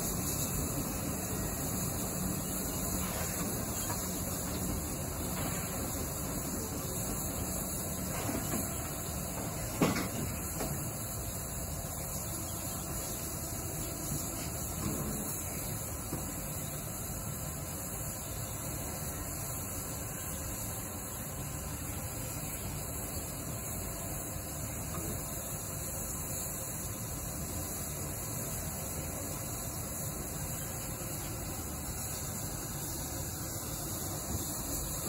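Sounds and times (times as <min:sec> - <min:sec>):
steam locomotive hissing: 0:00.0 - 0:35.0.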